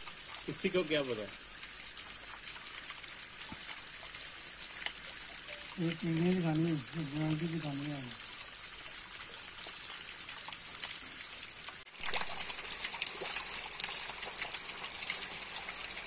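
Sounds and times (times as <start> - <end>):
waterfall splashing into pool: 0.0 - 16.0.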